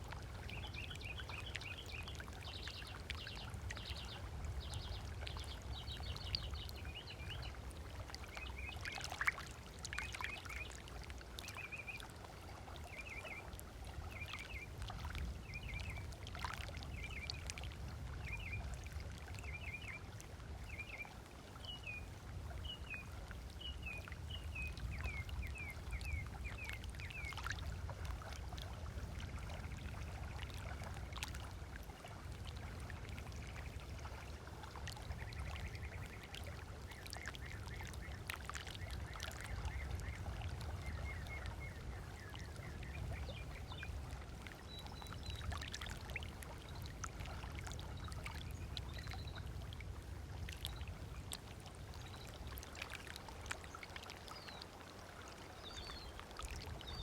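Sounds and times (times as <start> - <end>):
small waves lapping on sand: 0.0 - 57.0.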